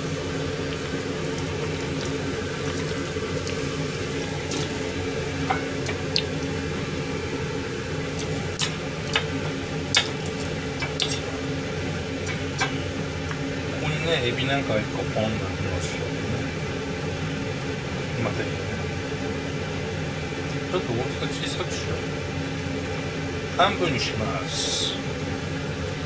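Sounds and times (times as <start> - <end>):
hot oil bubbling: 0.0 - 26.0
steady low hum: 0.0 - 26.0.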